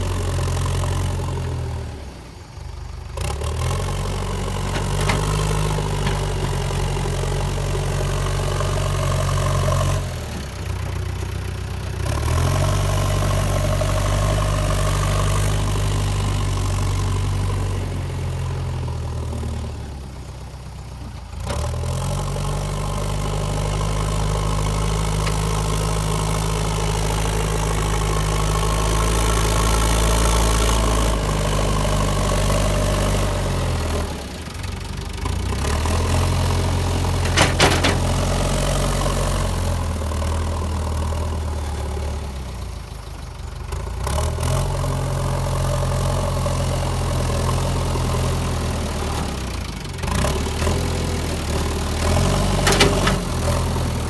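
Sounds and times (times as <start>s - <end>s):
diesel engine running: 0.0s - 19.7s, 22.2s - 44.0s, 44.7s - 54.0s.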